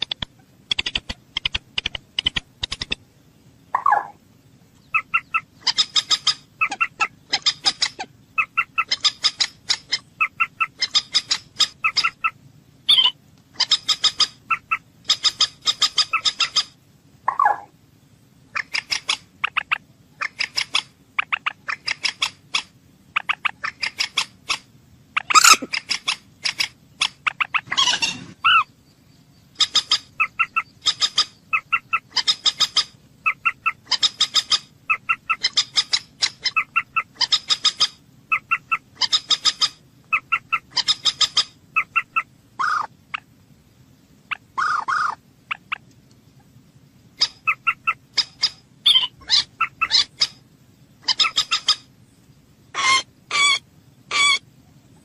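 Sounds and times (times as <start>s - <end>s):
moorhen calling: 3.7s - 4.2s, 4.8s - 17.7s, 18.5s - 43.3s, 44.2s - 51.9s, 52.7s - 54.5s.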